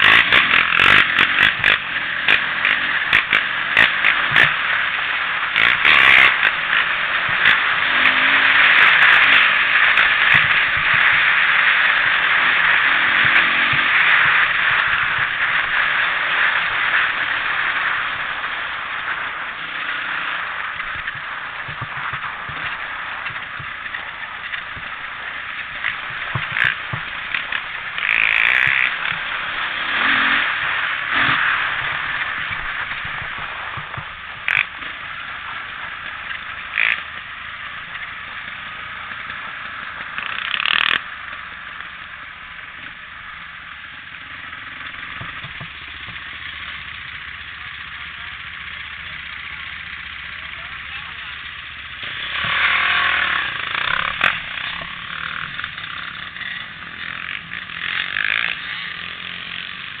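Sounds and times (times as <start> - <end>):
atv engine riding: 0.0 - 60.0.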